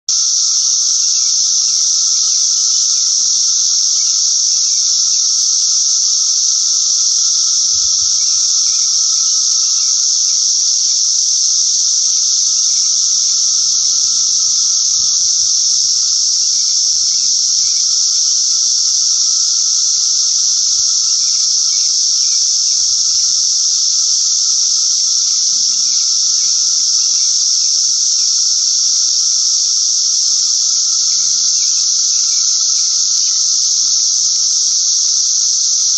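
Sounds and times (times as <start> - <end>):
cicadas singing: 0.1 - 35.9.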